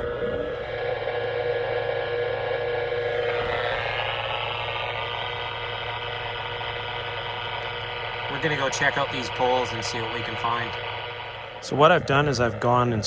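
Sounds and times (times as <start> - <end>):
buzzing hiss from radio speaker: 0.0 - 13.0
low hum: 0.0 - 13.0.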